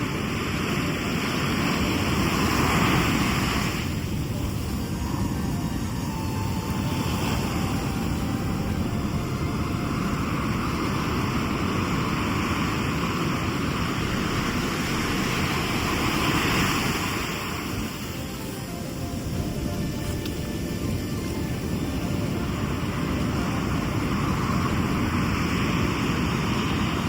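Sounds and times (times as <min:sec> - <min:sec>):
constant low rumble: 0:00.0 - 0:27.0
sea waves breaking on shore: 0:00.0 - 0:27.0.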